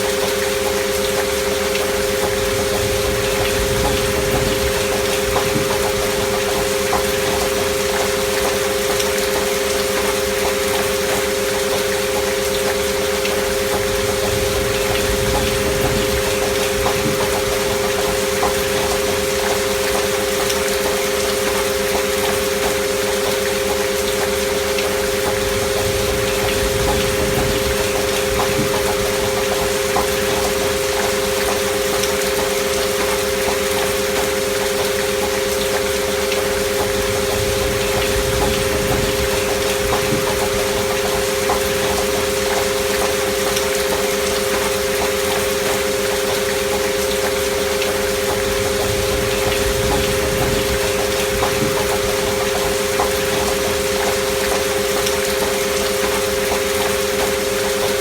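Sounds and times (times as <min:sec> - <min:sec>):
gentle rain: 0:00.0 - 0:58.0
rain drop ticks: 0:00.0 - 0:58.0.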